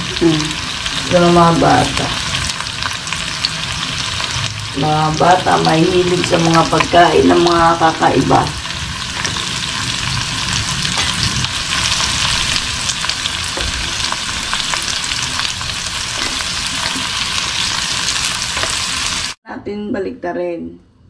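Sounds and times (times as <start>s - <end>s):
food sizzling in a wok: 0.0s - 19.4s.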